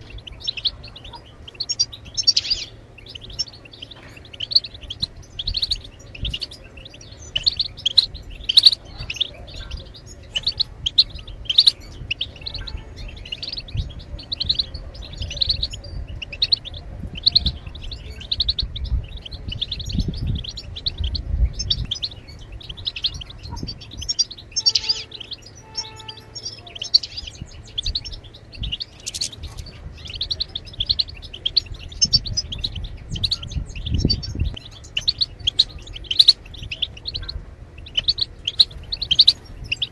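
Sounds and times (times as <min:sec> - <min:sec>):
bird twittering high chirps: 0:00.0 - 0:39.9.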